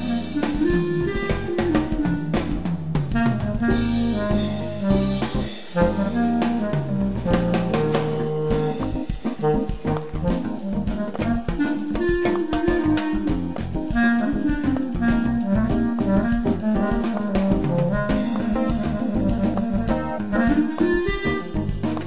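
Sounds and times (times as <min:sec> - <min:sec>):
clarinet playing jazz melody: 0:00.0 - 0:22.0
samba backing track with drums: 0:00.0 - 0:22.0.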